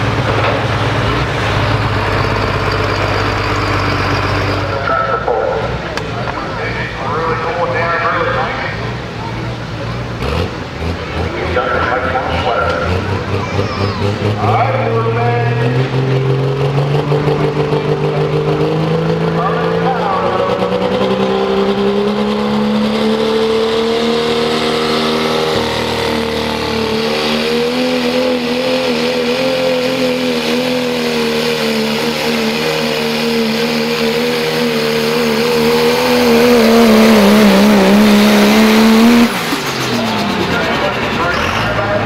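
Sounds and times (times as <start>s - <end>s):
pickup engine at full throttle: 0.0s - 42.0s.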